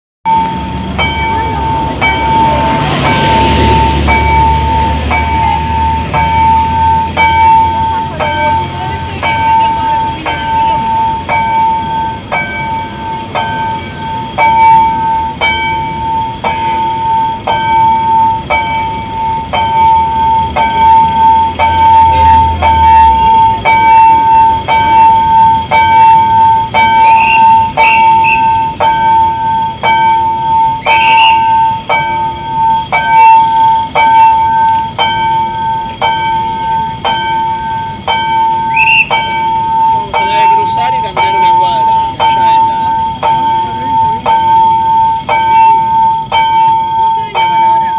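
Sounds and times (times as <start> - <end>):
level crossing warning bell: 0.2 - 47.9
train rumbling: 0.3 - 47.9.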